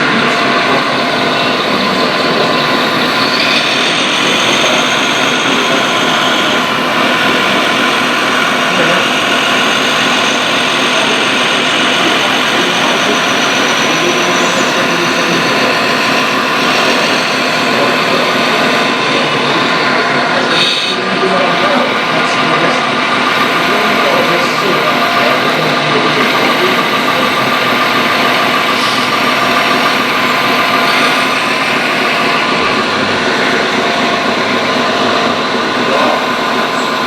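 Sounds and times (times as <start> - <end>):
electric motors whining: 0.0 - 37.0.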